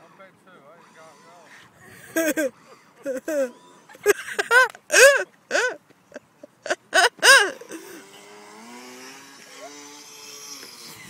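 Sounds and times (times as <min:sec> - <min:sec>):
faint vehicle engine drone: 0:00.0 - 0:11.0.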